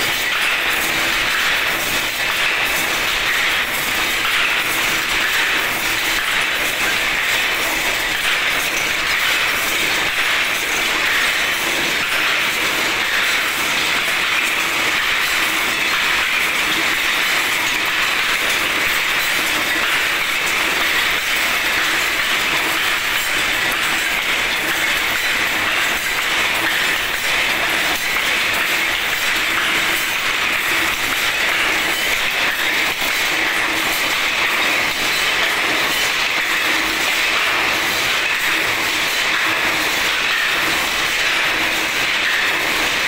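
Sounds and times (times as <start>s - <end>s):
weaving machine clattering: 0.0s - 43.0s.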